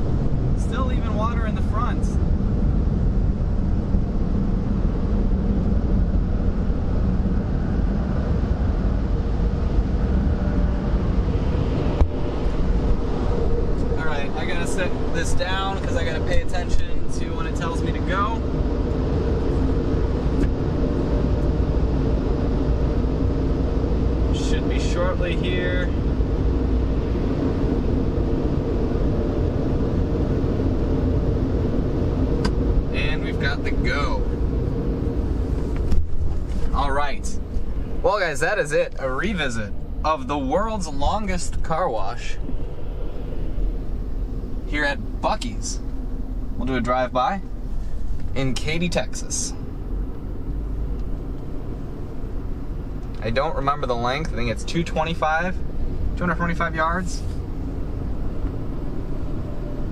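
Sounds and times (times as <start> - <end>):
car wash dryers blasting air: 0.0 - 59.9.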